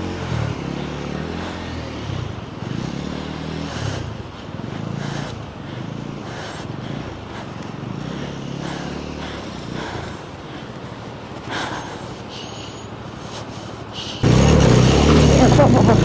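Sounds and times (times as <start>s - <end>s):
motorcycle engine running: 0.0s - 11.4s, 14.2s - 16.0s.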